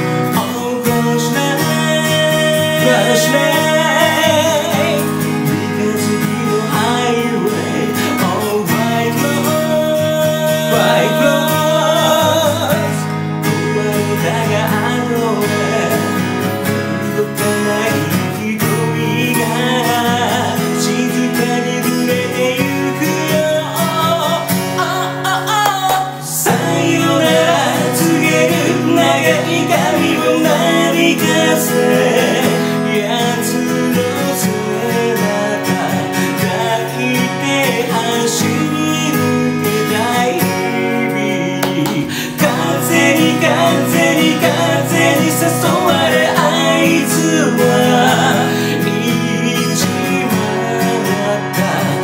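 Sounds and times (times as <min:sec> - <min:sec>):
acoustic guitar strumming: 0:00.0 - 0:52.0
man singing: 0:00.0 - 0:52.0.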